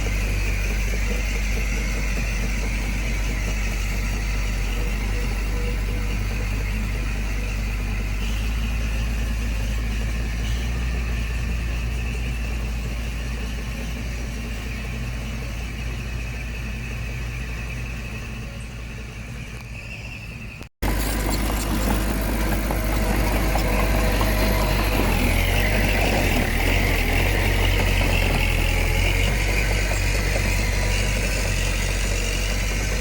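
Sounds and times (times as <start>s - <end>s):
diesel engine running at low revs: 0.0s - 33.0s.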